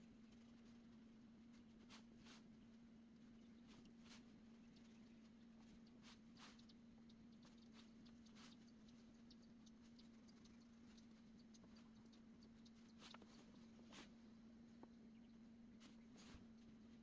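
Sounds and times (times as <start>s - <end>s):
paintbrush ticking and scratching: 0.0s - 14.2s
steady low hum: 0.0s - 17.0s.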